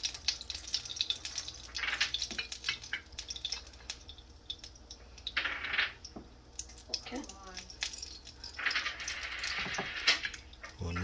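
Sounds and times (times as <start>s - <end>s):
oil sizzling in frying pan: 0.0s - 10.8s.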